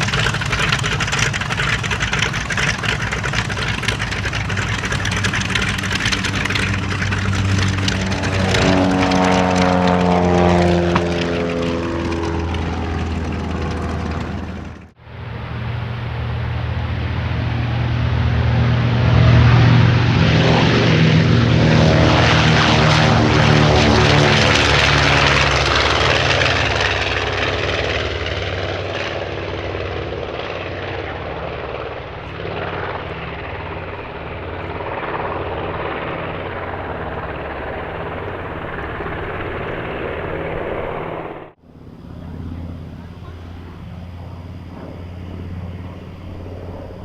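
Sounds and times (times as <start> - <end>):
propeller plane engines droning: 0.0 - 47.0.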